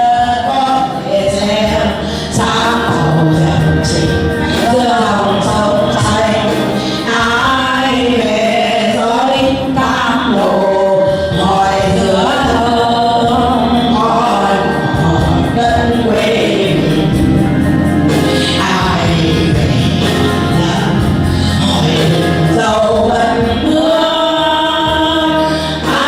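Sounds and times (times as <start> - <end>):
group of voices singing: 0.0 - 26.0
instrumental backing music: 0.0 - 26.0.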